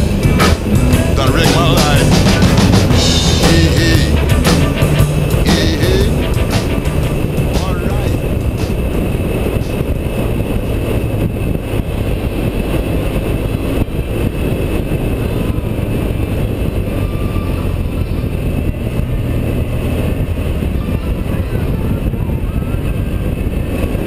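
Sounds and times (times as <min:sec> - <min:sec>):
motorcycle engine cruising: 0:00.0 - 0:24.0
wind noise on microphone: 0:00.0 - 0:24.0.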